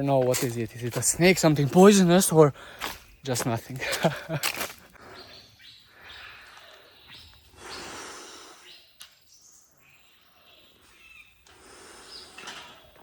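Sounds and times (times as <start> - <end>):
birds calling: 0.0 - 13.0
insects calling: 0.7 - 13.0.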